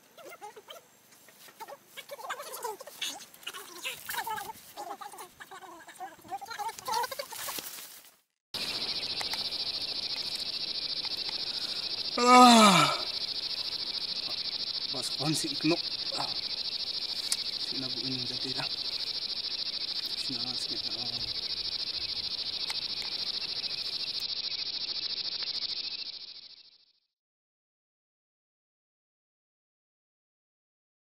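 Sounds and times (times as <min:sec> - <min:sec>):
insects chirring: 0:00.0 - 0:27.1.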